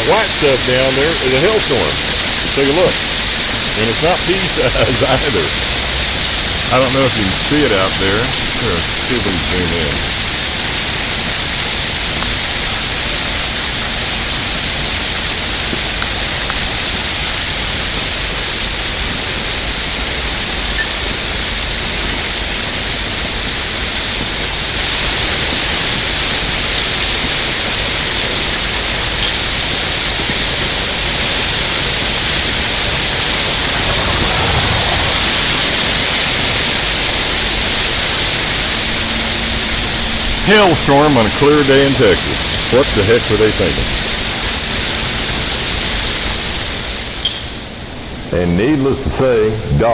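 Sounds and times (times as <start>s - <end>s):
hailstones pelting down: 0.0s - 47.7s.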